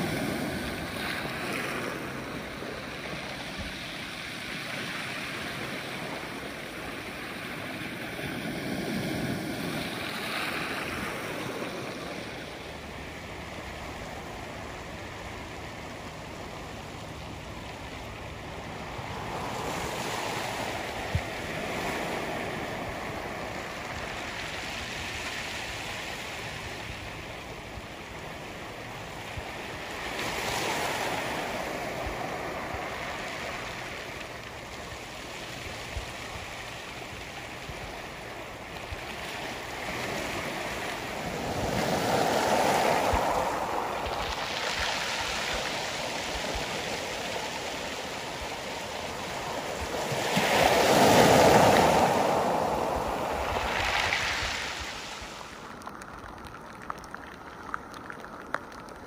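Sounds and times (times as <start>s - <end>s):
stream rippling over stones: 0.0s - 59.0s
surf on pebble beach: 0.0s - 59.0s.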